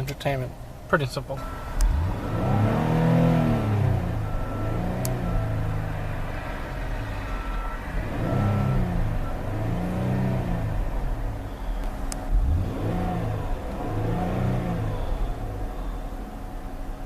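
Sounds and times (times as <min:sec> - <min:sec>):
car engine revving: 0:01.4 - 0:17.0.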